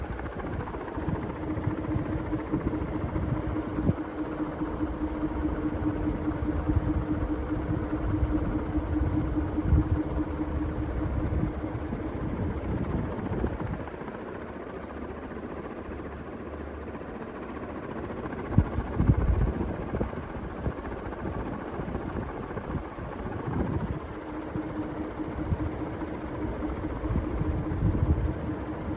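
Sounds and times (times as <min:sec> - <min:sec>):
ceiling fan motor hum: 0:00.0 - 0:28.9
fan ticking: 0:00.0 - 0:28.9.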